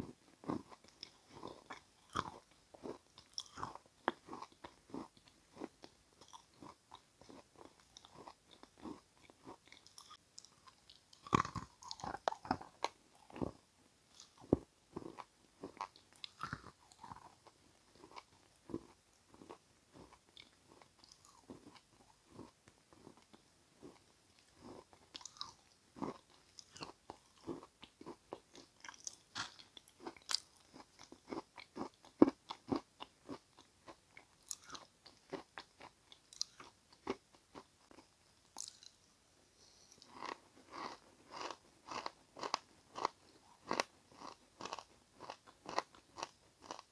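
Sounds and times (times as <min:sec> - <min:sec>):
person chewing crunchy food: 0:00.0 - 0:39.0, 0:39.7 - 0:46.9.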